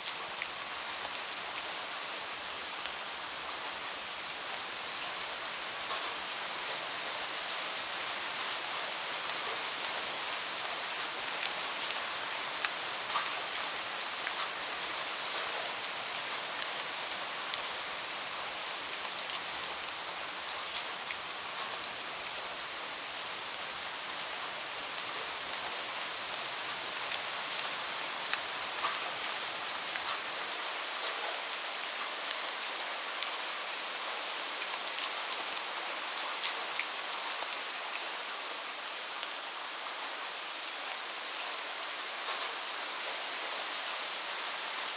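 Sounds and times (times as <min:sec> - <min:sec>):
raindrops ticking on a surface: 0:00.0 - 0:40.2, 0:40.9 - 0:44.9
steady rain hissing: 0:00.0 - 0:44.9.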